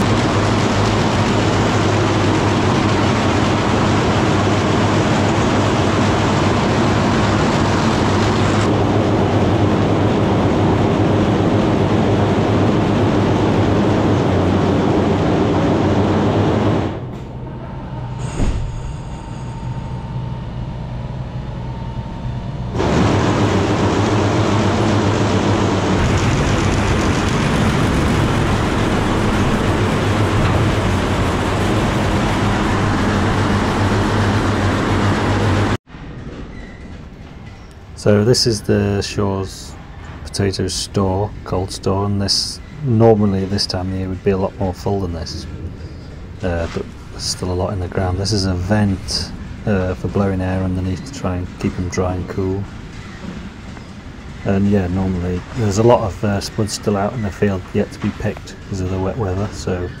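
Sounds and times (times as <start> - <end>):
machinery humming: 0.0 - 60.0.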